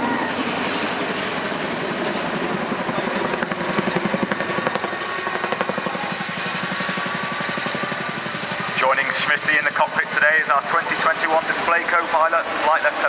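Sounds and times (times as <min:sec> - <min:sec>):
helicopter rotors chopping: 0:00.0 - 0:13.0.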